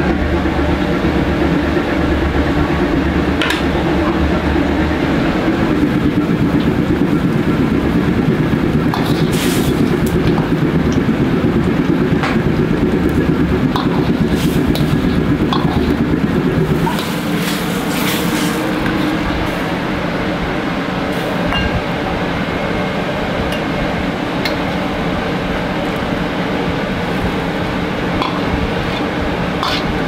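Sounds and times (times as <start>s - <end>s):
broth boiling: 0.0s - 30.0s
gas burner roaring: 0.0s - 30.0s.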